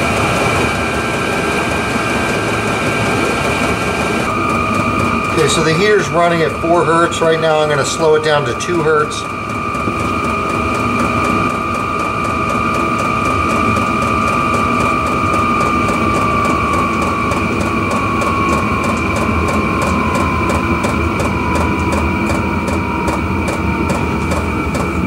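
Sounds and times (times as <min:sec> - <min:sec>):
heater blower whine: 0:00.0 - 0:25.0
steady rumble: 0:00.0 - 0:25.0.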